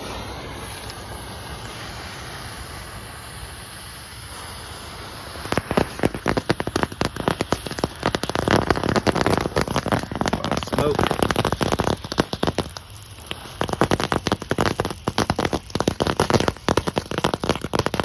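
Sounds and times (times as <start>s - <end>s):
fireworks crackling pops: 0.0s - 18.0s.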